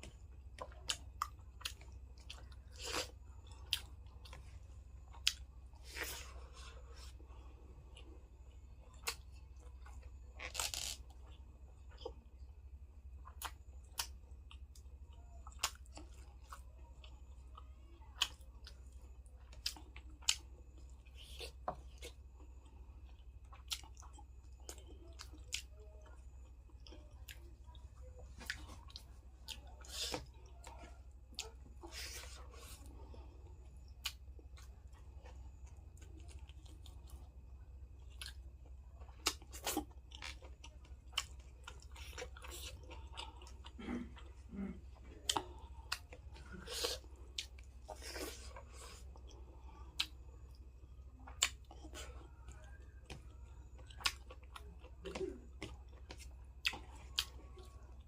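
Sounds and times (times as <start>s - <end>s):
person chewing food: 0.0s - 58.0s
steady low hum: 0.0s - 58.0s.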